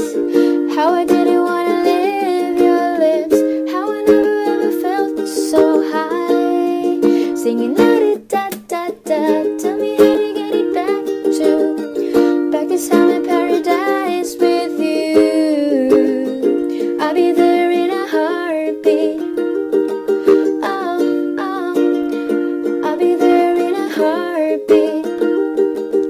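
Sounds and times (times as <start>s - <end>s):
pop song with ukulele: 0.0s - 26.0s.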